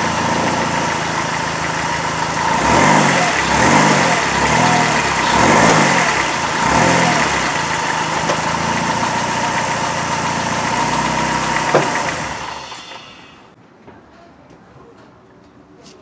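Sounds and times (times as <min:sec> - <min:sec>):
car engine revving and idling: 0:00.0 - 0:13.3.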